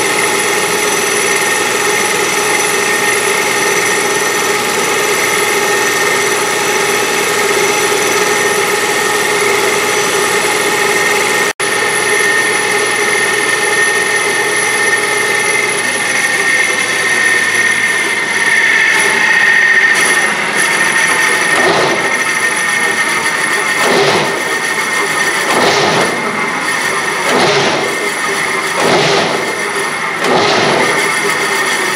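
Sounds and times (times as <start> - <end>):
lathe machine whine: 0.0 - 31.9.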